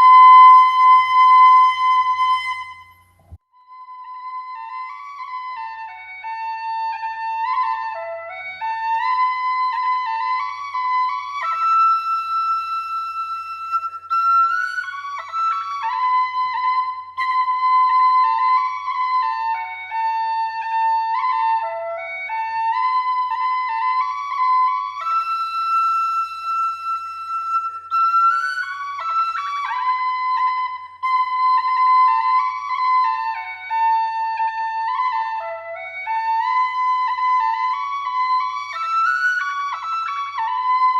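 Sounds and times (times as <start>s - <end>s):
solo flute-like melody: 0.0s - 40.9s.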